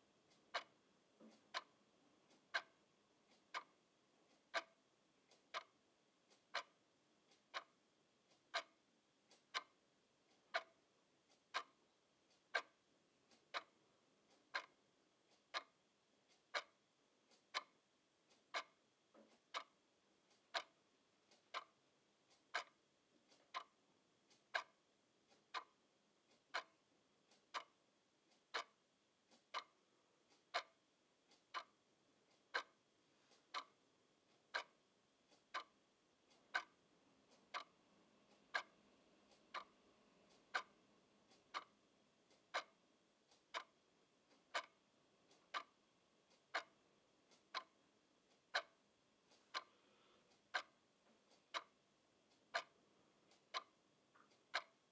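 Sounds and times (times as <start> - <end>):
wall clock ticking: 0.0 - 54.9.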